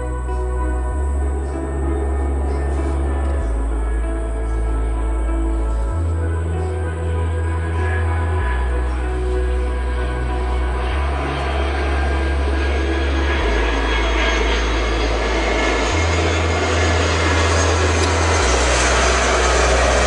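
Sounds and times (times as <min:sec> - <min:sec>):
airliner engines rushing: 0:00.0 - 0:20.0
background music with slow bass: 0:00.0 - 0:20.0.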